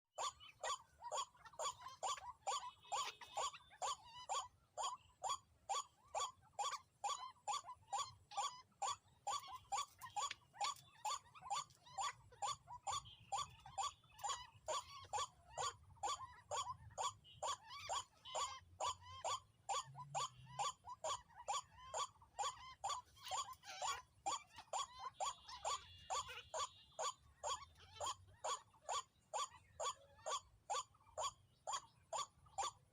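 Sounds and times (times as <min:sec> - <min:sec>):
waterhen calling: 0:00.2 - 0:32.9.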